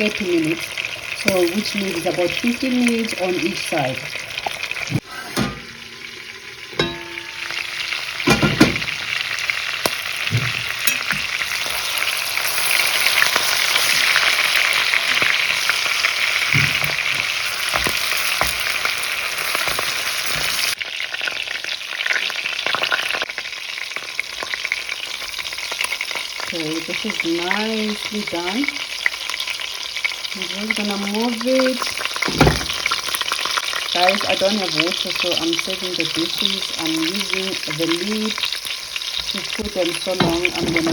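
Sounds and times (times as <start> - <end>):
meat sizzling in hot oil: 0.0 - 40.9.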